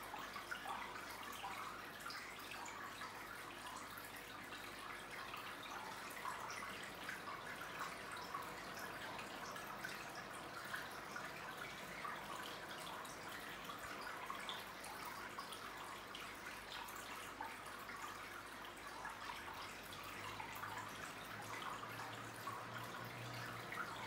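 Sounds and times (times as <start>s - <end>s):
aquarium water trickling: 0.0s - 24.0s
water drips and plinks: 0.0s - 24.0s.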